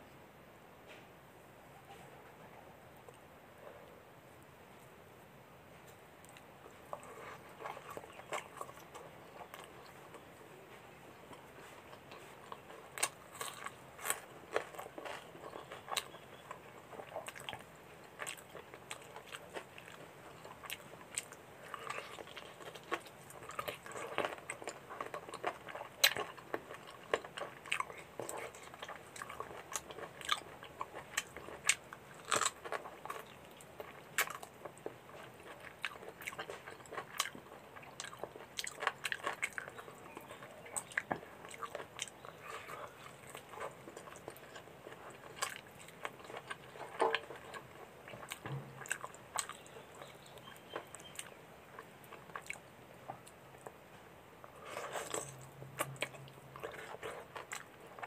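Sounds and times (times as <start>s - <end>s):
person chewing food: 5.8s - 58.0s
crunching onion rings: 6.2s - 53.8s.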